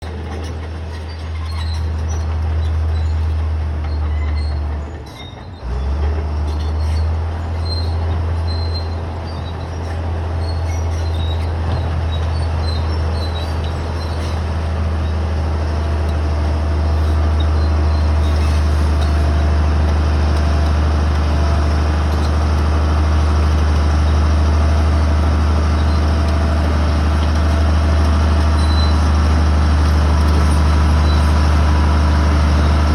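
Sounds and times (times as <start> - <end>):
diesel engine droning: 0.0 - 32.9
metallic squeaks from tracks: 0.0 - 32.9.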